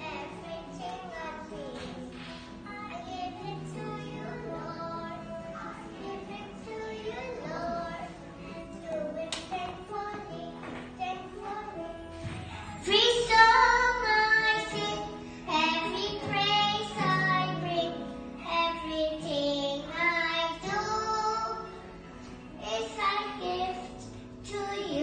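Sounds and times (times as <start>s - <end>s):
girl singing through microphone: 0.0s - 21.9s, 22.5s - 25.0s.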